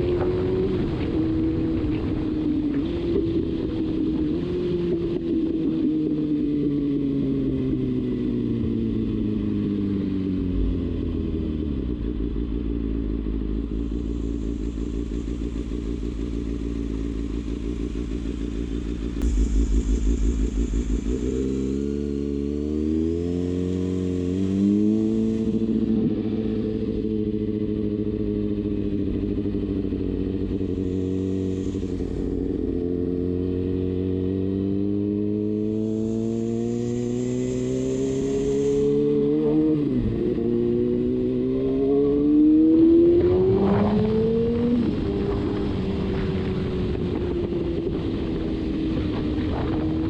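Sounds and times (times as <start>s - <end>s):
motorcycle engine: 0.0s - 50.0s.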